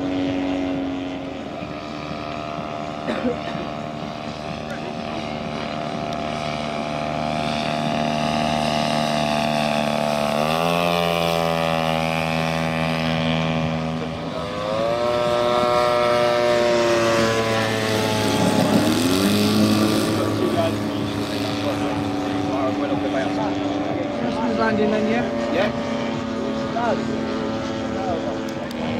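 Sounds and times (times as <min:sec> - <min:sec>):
model aircraft engines: 0:00.0 - 0:28.9.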